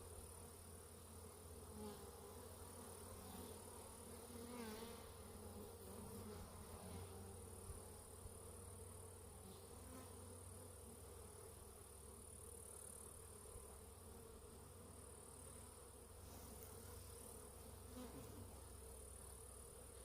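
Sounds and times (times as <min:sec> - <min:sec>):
faint bees buzzing: 0:00.0 - 0:20.0.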